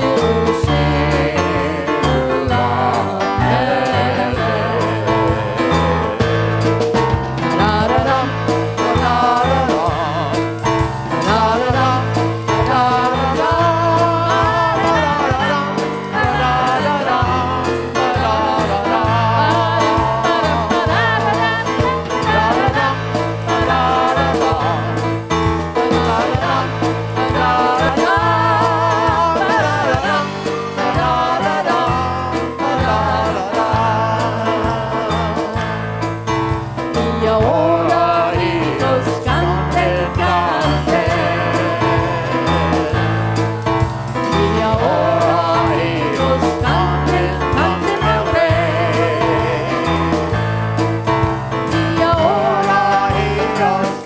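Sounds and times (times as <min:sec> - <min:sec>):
steady bass notes: 0:00.0 - 0:54.0
voices singing worship song: 0:00.0 - 0:54.0.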